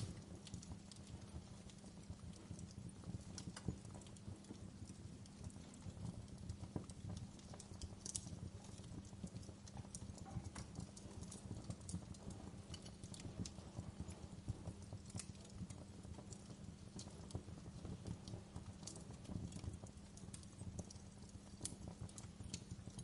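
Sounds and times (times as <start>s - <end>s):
fire popping and snapping: 0.0s - 23.0s
low rumble of burning: 0.0s - 23.0s.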